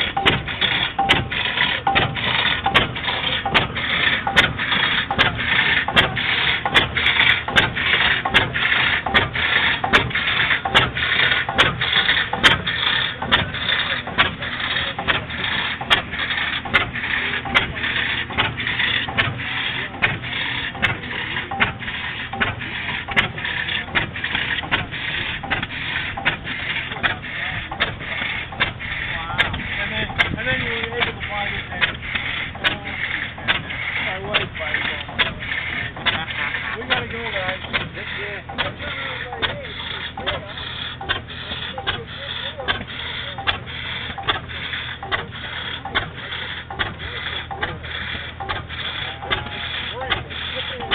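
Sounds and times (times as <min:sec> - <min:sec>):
oilfield engine clicking: 0:00.0 - 0:50.9.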